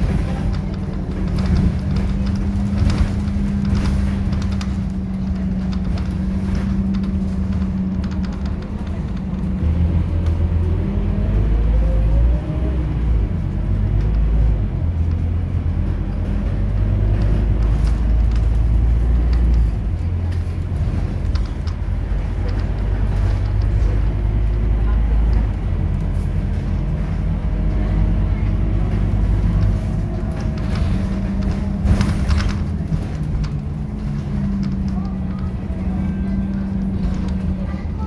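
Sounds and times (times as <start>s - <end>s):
bus diesel engine: 0.0s - 38.0s.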